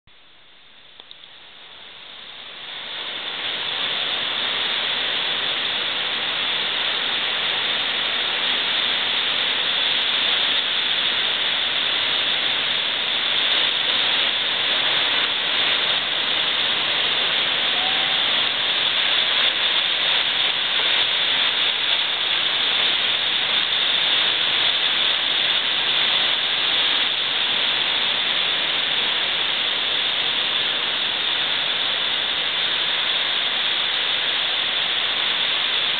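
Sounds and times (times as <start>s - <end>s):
ocean surf breaking on beach: 1.2s - 35.9s.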